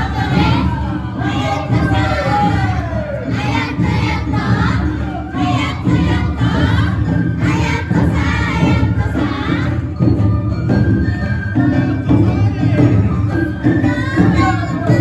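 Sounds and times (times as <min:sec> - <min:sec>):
drums and gongs beating: 0:00.0 - 0:15.0
group chanting and shouting: 0:00.0 - 0:15.0.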